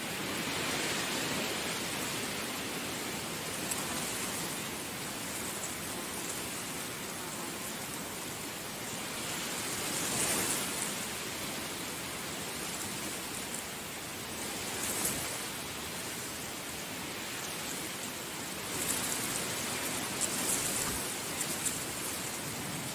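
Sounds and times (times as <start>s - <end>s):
heavy rain: 0.0s - 22.9s.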